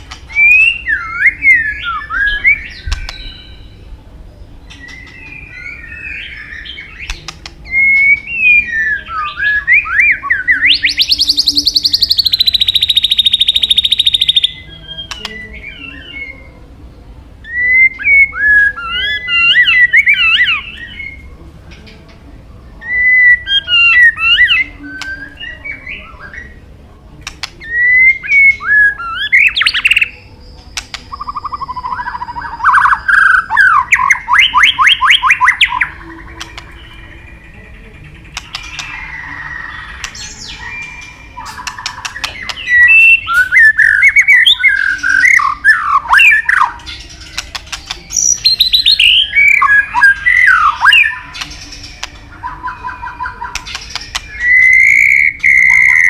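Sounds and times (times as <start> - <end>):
bird singing whistled phrases: 0.3 - 3.8, 4.7 - 16.5, 17.4 - 21.3, 22.8 - 26.6, 27.6 - 37.5, 38.4 - 56.0.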